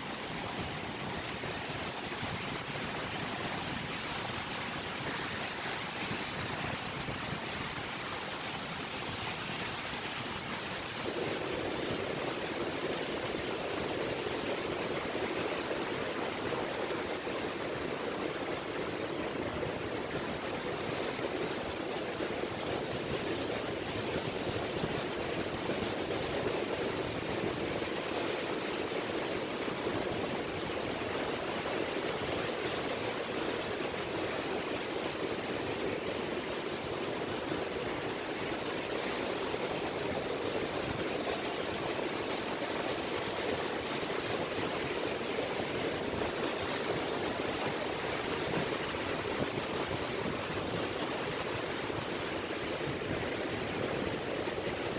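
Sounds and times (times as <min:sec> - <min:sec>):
small waves lapping at shore: 0:00.0 - 0:54.9.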